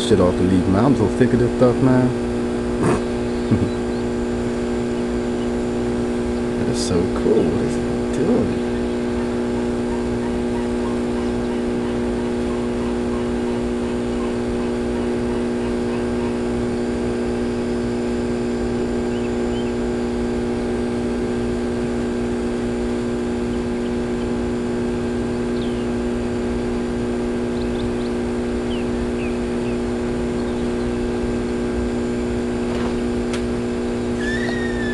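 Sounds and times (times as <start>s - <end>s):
steady motor hum: 0.0s - 34.9s.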